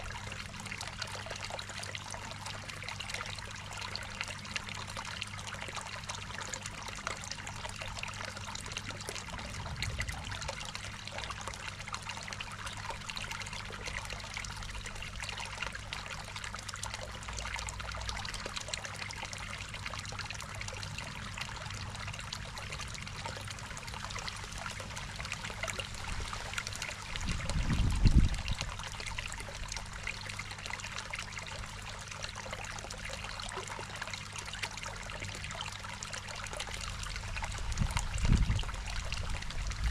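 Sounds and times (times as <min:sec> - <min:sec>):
steady low hum: 0:00.0 - 0:39.9
water trickling into pond: 0:00.0 - 0:39.9.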